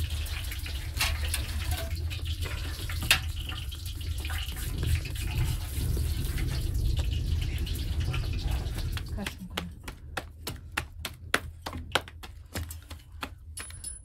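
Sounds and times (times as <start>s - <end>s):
fire rumbling in an oven: 0.0s - 12.5s
fire crackling: 0.0s - 13.6s.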